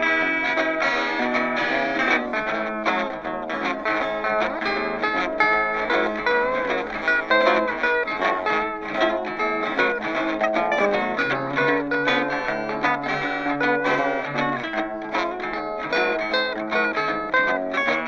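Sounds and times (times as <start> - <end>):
guitar tune: 0.0 - 18.0.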